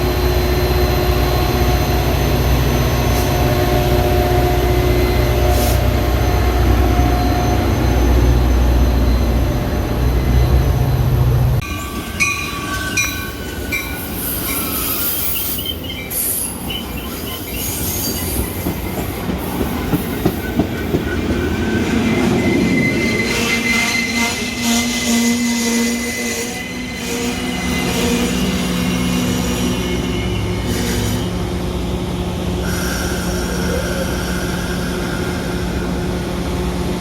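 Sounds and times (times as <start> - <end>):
train wheels squealing: 0.0 - 36.5
train rumble: 0.0 - 37.0.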